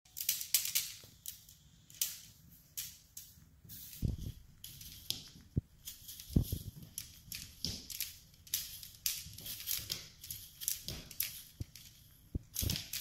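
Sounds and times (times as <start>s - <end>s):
tinsel wand crinkling swishes: 0.2s - 13.0s.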